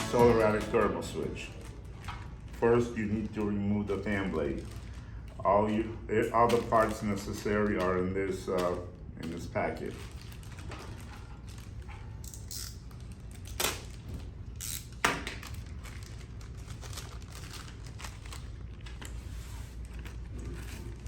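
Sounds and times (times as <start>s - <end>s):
plastic packet crinkling: 0.0s - 21.0s.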